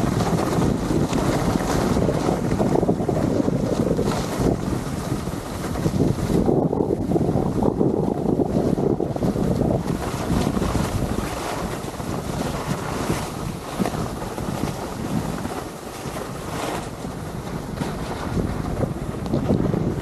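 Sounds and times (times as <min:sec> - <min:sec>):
skis scraping on packed snow: 0:00.0 - 0:20.0
wind on camera microphone: 0:00.0 - 0:20.0.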